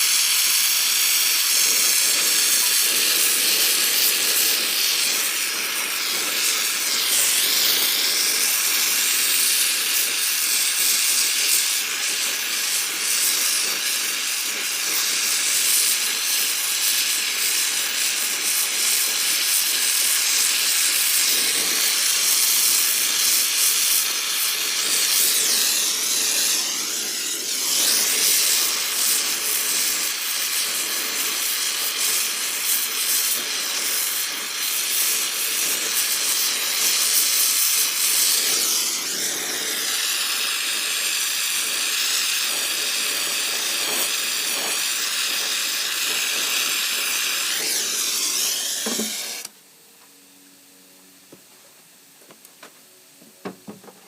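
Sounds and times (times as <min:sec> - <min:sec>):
torch flame hissing: 0:00.0 - 0:49.6.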